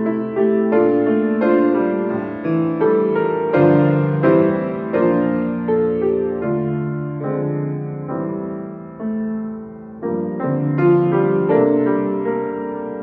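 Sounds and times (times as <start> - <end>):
slow solo piano piece: 0.0 - 13.0.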